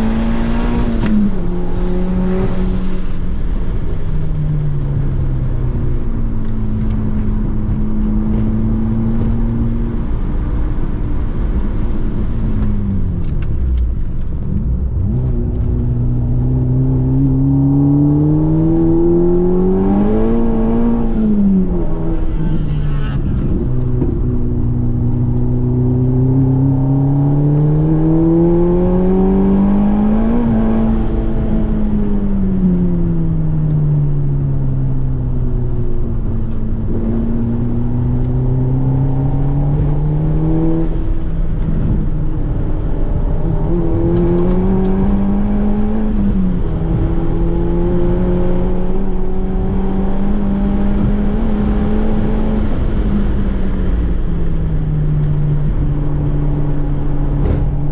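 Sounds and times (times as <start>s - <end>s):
car engine revving: 0.0s - 4.0s, 4.8s - 57.9s.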